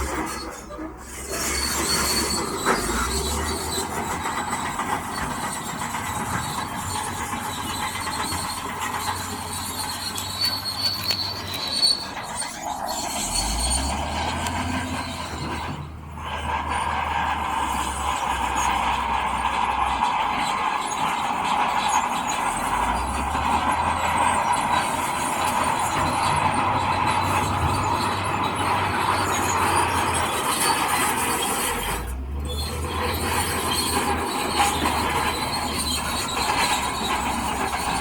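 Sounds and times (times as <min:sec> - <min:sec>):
bulldozer diesel engine running: 0:00.0 - 0:38.0
metallic squeal of steel tracks: 0:00.0 - 0:38.0.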